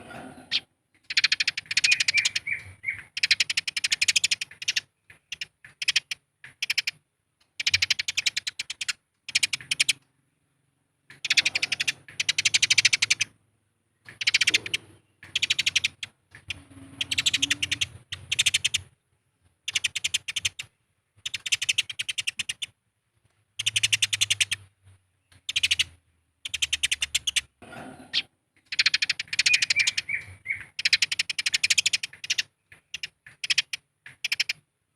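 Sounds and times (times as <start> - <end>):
sparrows harsh chirping: 0.0 - 7.0, 7.6 - 19.0, 19.6 - 22.8, 23.5 - 34.7.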